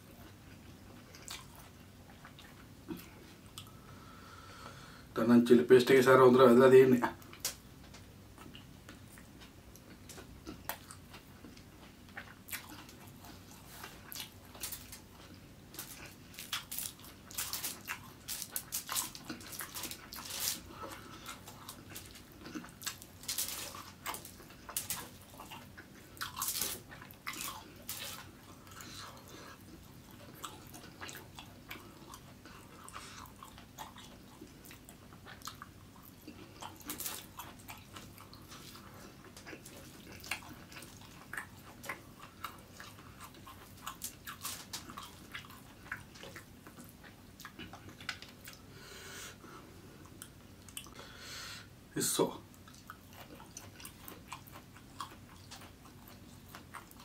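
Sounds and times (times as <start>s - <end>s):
person chewing food: 0.0s - 5.0s, 7.2s - 51.2s, 52.5s - 57.0s.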